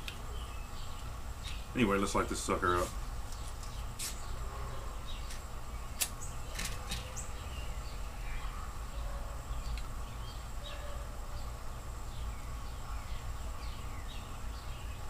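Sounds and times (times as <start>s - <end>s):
birds chirping: 0.0s - 15.0s
insects chirping: 0.0s - 15.0s
steady low hum: 0.0s - 15.0s.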